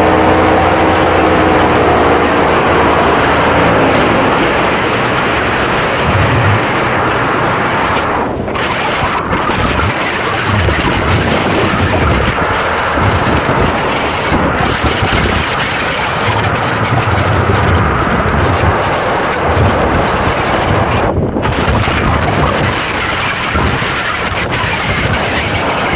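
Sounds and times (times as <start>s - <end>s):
paramotor engine and propeller: 0.0s - 25.9s
wind buffeting microphone: 0.0s - 25.9s.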